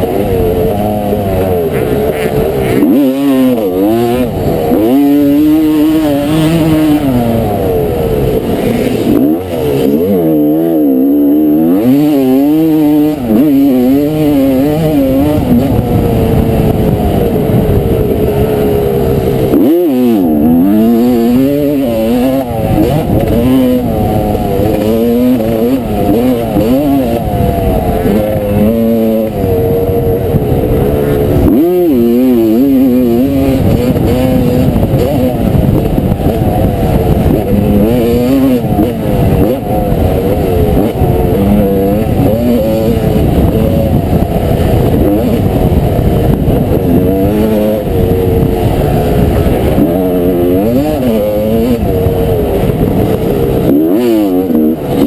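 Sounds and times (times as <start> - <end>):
two-stroke motorcycle engine revving: 0.0 - 55.0.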